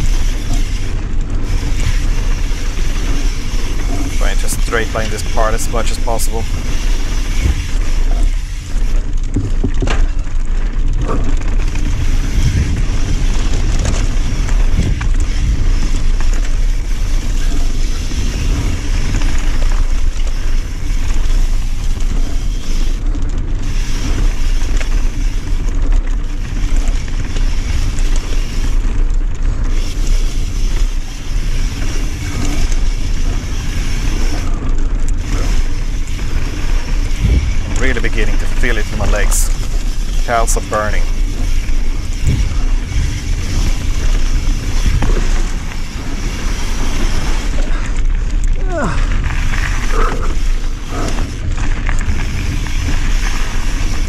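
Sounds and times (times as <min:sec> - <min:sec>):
bike tyres crunching on gravel: 0:00.0 - 0:54.0
wind rush on microphone: 0:00.0 - 0:54.0.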